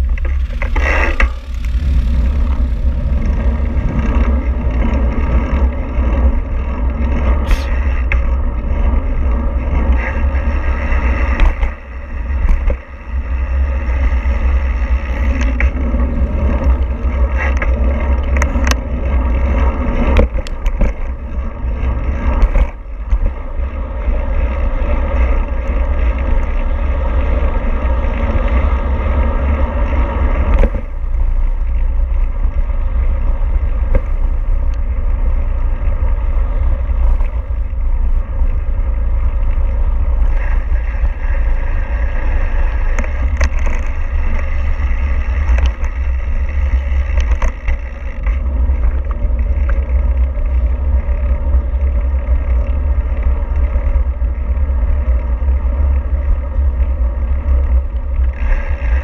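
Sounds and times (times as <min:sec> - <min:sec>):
vehicle rumbling: 0:00.0 - 0:59.0.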